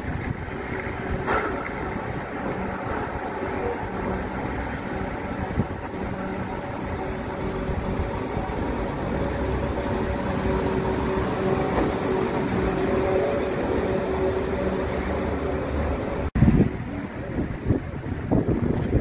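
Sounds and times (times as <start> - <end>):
train rolling past rumbling: 0.0 - 19.0.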